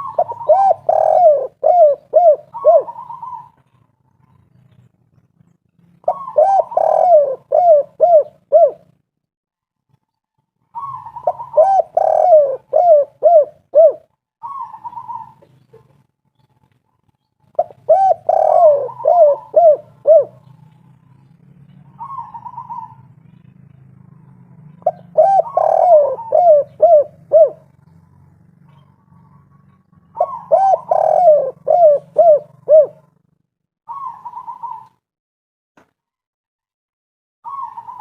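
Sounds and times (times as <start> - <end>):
dove cooing: 0.0 - 4.5, 6.0 - 9.0, 10.7 - 16.1, 17.5 - 35.0, 37.4 - 38.0.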